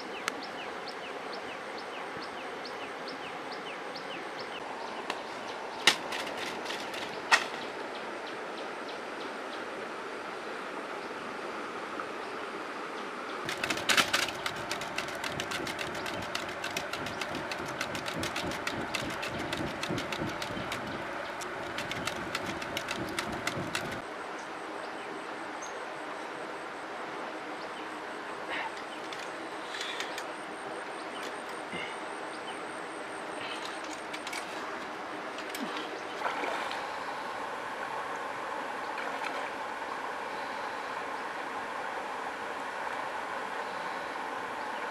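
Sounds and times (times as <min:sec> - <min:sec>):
river water flowing: 0:00.0 - 0:24.1, 0:32.0 - 0:44.9.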